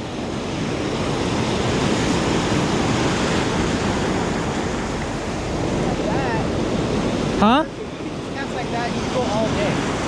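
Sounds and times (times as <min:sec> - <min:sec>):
ocean surf breaking: 0:00.0 - 0:10.0
wind on microphone: 0:00.0 - 0:10.0.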